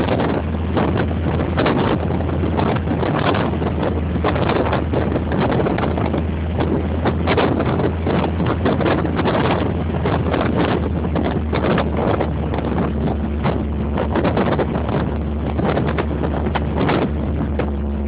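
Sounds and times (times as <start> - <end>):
car engine humming: 0.0 - 18.0
wind buffeting microphone: 0.0 - 18.0.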